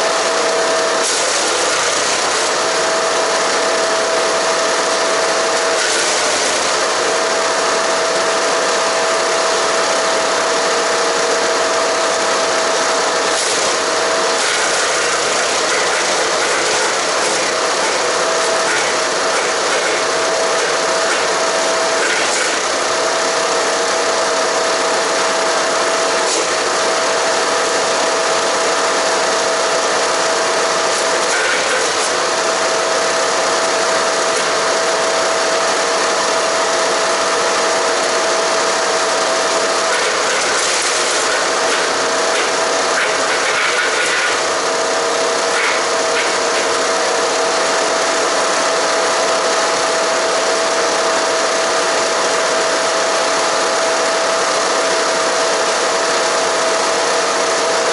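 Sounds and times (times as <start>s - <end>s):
wood chipper chipping branches: 0.0s - 57.9s.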